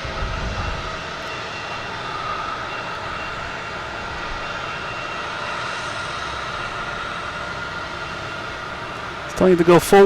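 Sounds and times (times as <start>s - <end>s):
jet engines whining: 0.0s - 10.0s.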